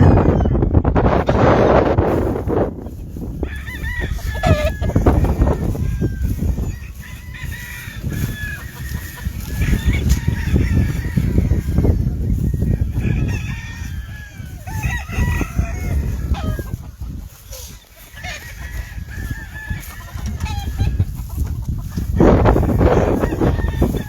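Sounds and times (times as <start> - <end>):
roosters crowing: 0.0 - 24.0.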